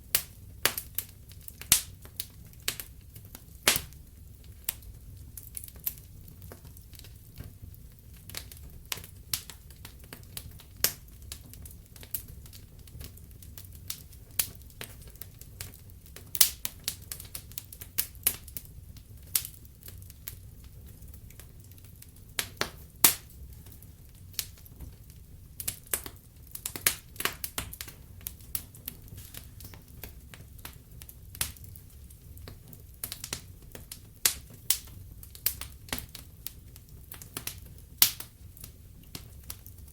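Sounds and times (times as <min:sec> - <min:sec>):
low rumble of flames: 0:00.0 - 0:39.9
logs crackling and popping: 0:00.1 - 0:39.9.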